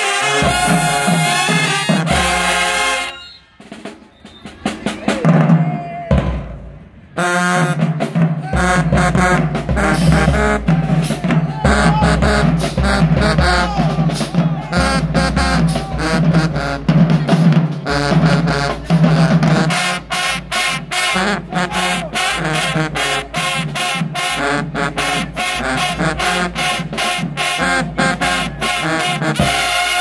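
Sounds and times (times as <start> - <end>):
marching band brass: 0.0 - 30.0
steady drum beat: 0.0 - 30.0.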